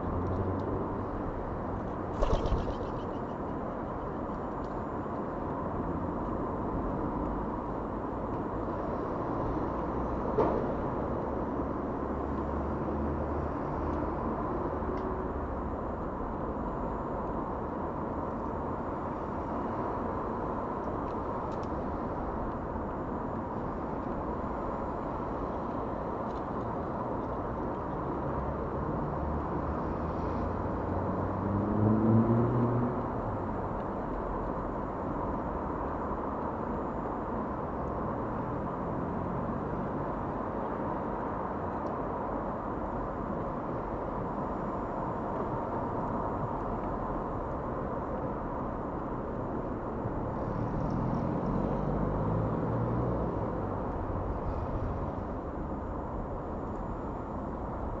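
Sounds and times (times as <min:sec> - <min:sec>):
distant road traffic hum: 0:00.0 - 0:58.0.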